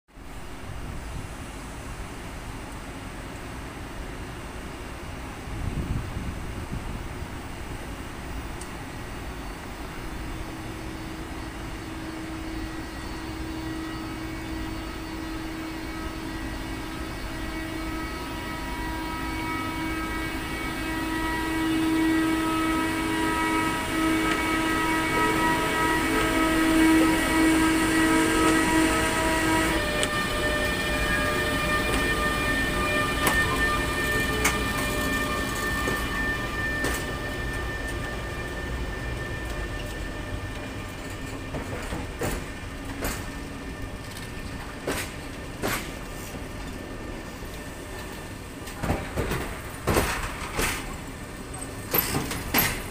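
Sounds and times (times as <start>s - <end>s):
electric locomotive whine: 0.2s - 52.9s
train rolling rumble: 0.2s - 52.9s.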